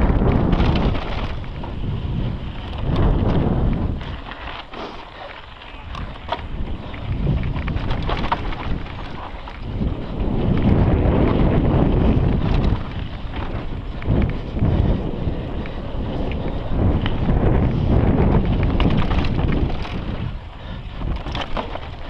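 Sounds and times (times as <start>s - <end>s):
bike rattling: 0.0s - 22.0s
tyres over loose dirt and stones: 0.0s - 22.0s
wind buffeting microphone: 0.0s - 22.0s.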